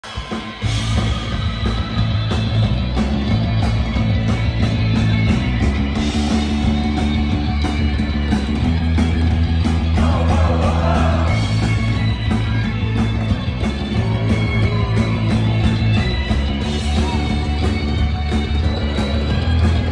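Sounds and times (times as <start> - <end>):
bass guitar: 0.0 - 19.9
distorted electric guitars: 0.0 - 19.9
steady drumbeat: 0.0 - 19.9.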